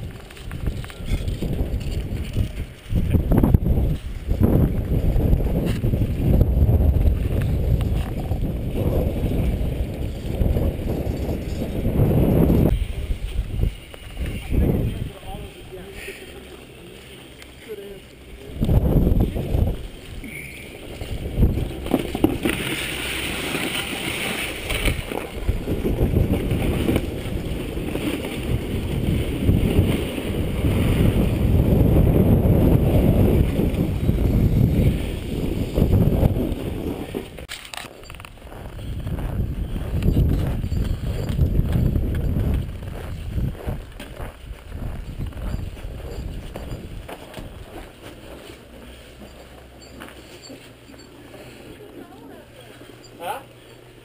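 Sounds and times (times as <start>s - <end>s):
snowboard scraping over snow: 0.0s - 37.5s, 38.4s - 49.5s.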